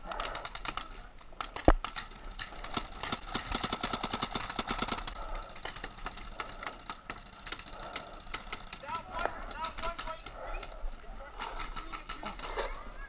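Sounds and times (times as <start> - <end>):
paintball markers firing: 0.0 - 12.8.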